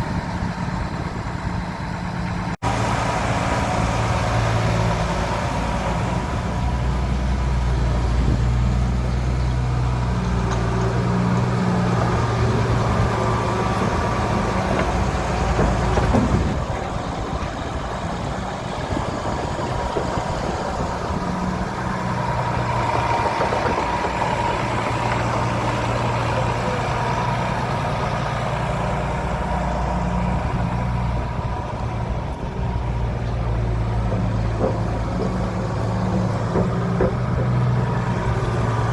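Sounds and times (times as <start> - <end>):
paver diesel engine running: 0.0 - 38.9.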